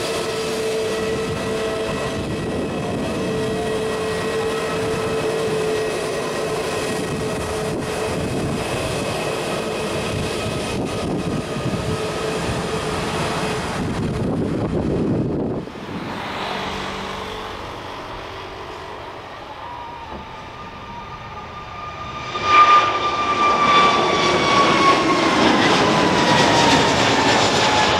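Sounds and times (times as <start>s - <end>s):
jet engines whining: 0.0s - 27.9s.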